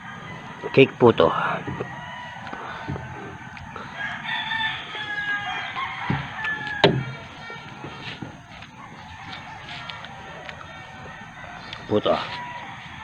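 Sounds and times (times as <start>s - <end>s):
rooster crowing: 0.0s - 13.0s.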